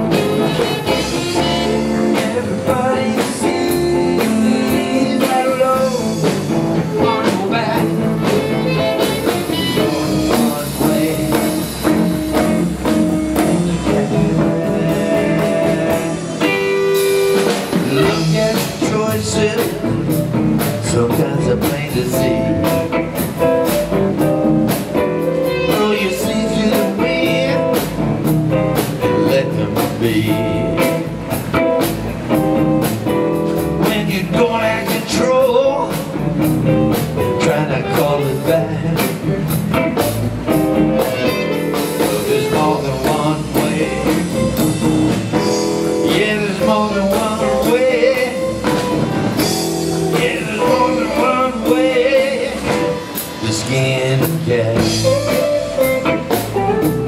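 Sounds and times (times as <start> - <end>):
electric blues band playing: 0.0 - 57.0
lead guitar: 0.0 - 57.0.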